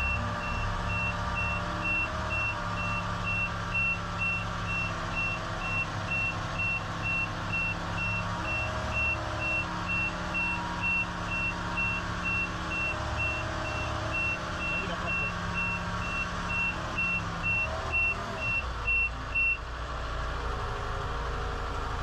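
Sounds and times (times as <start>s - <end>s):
warning alarm beeping: 0.0s - 19.6s
diesel engine running under load: 0.0s - 22.0s.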